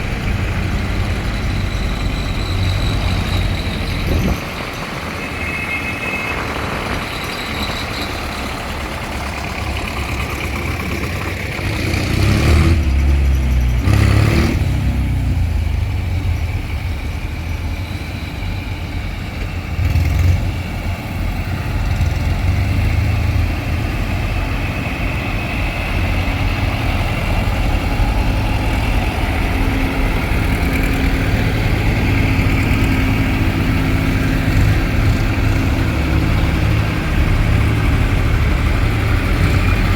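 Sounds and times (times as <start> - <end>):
tractor engine revving: 0.0 - 39.9
tractor engines running: 0.0 - 39.9.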